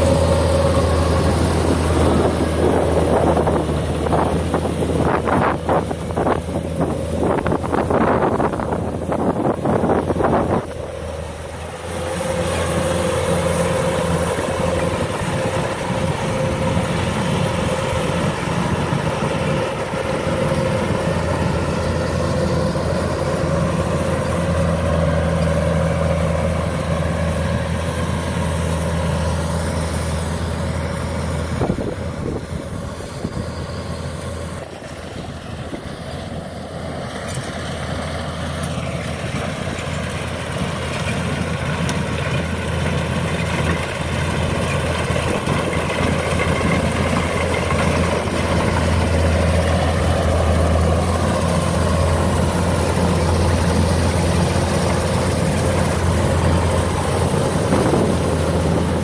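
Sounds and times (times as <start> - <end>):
combine harvester diesel engine droning: 0.0 - 59.0.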